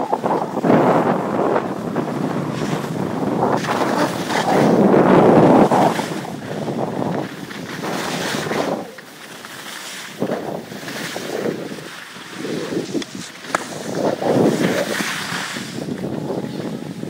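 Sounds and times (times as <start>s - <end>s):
skis sliding over snow: 0.0s - 17.0s
wind rushing over microphone: 0.0s - 17.0s.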